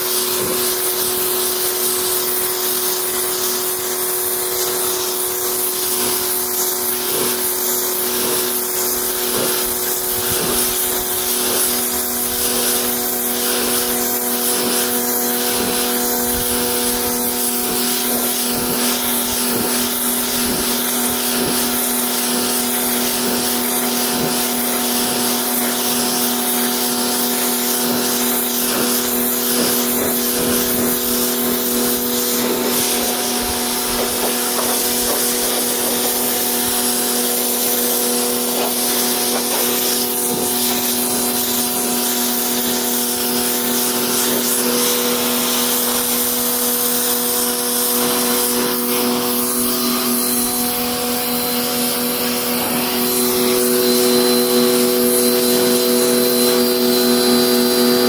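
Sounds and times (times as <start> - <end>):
pressure washer motor humming: 0.0 - 58.0
water jet hissing on fabric: 0.0 - 58.0.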